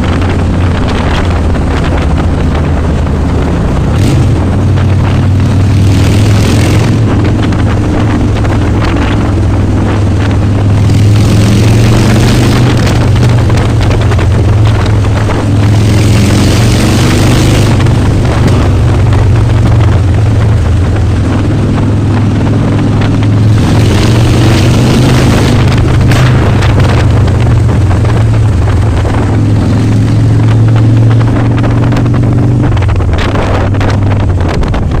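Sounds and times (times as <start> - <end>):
motorcycle engine rumbling: 0.0 - 35.0
wind noise on microphone: 0.0 - 35.0.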